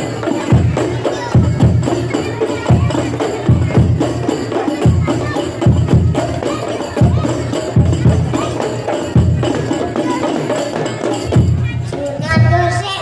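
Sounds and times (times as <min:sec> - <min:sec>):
frame drums playing: 0:00.0 - 0:12.9.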